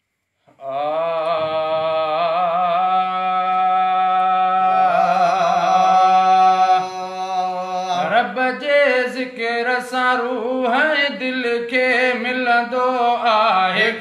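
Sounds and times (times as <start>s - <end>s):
man singing devotional hymn: 0.6s - 14.0s.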